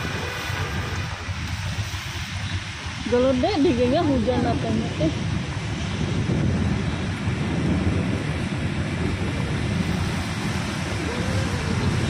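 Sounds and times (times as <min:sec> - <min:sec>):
heavy rain and rushing water: 0:00.0 - 0:12.0
low rumble: 0:00.0 - 0:12.0.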